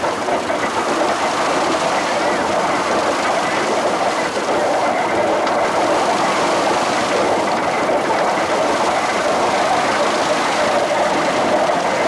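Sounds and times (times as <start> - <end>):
threshing machine drum clattering: 0.0 - 12.0.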